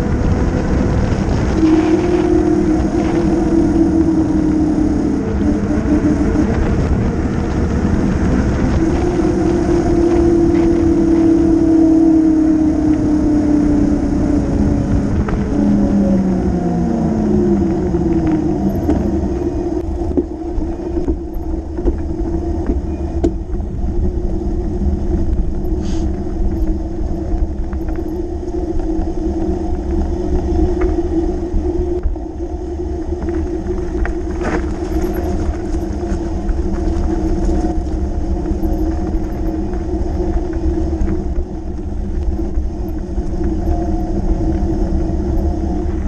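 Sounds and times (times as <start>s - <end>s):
fat bike tyres humming: 0.0s - 46.0s
steady drone: 0.0s - 46.0s
wind rumble on microphone: 0.0s - 46.0s.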